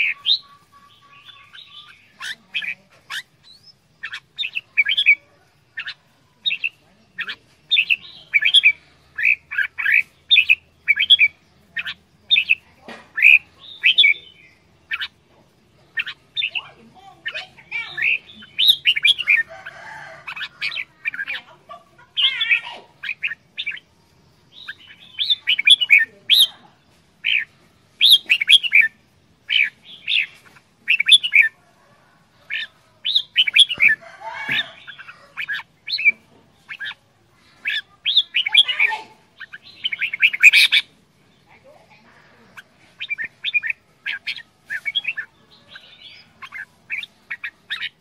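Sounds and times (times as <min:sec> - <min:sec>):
bird singing chirping phrases: 0:00.0 - 0:48.0.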